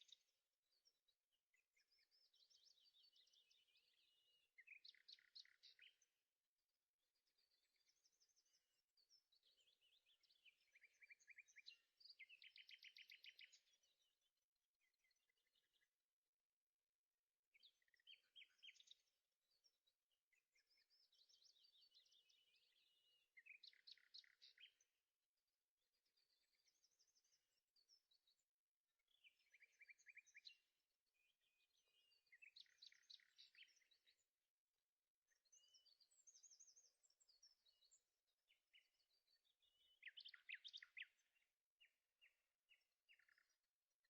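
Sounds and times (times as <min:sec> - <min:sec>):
songbird chirping and trilling: 0:00.0 - 0:44.0.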